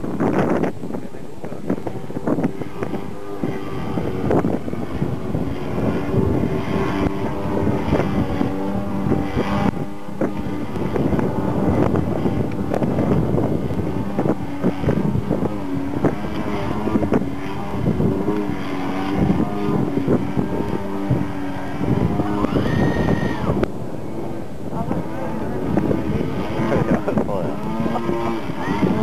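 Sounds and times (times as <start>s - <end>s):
model airplane engine: 0.0s - 29.0s
wind buffeting microphone: 0.0s - 29.0s.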